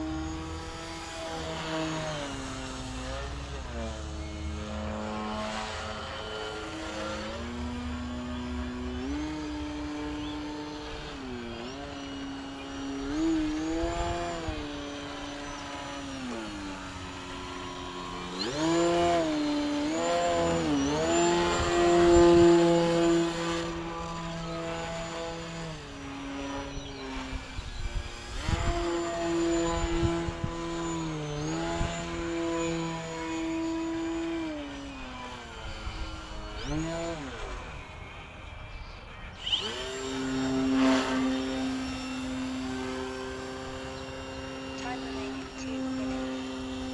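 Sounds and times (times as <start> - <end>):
model plane motor whining: 0.0 - 46.9.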